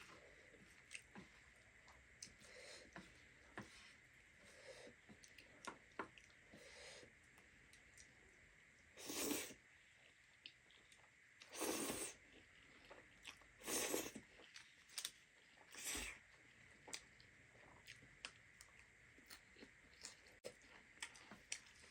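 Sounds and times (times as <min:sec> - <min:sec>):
person chewing food: 0:00.0 - 0:03.6, 0:04.5 - 0:06.5, 0:09.0 - 0:21.9.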